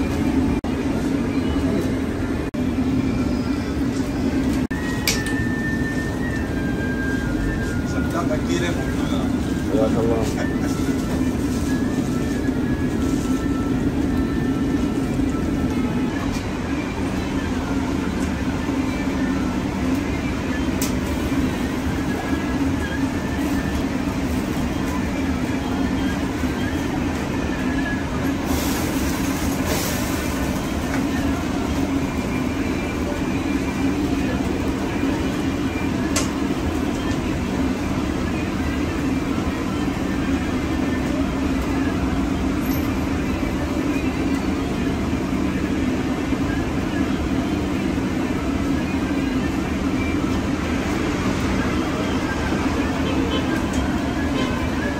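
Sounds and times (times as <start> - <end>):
gas broiler: 3.8 - 54.9.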